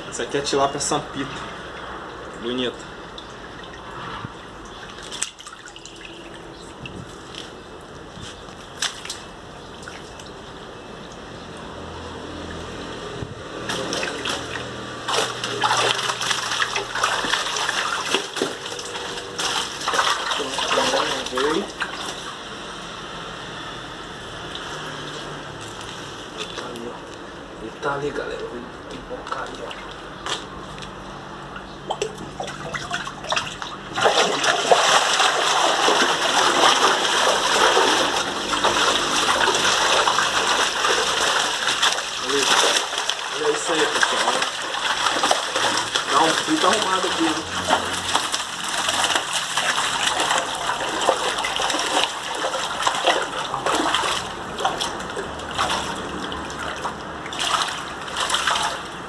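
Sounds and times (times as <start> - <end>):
water splashing and sloshing: 0.0 - 59.0.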